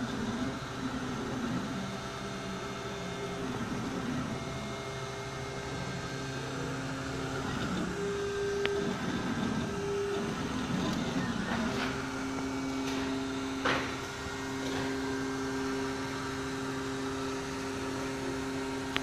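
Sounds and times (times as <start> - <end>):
stepper motors humming: 0.0 - 19.0.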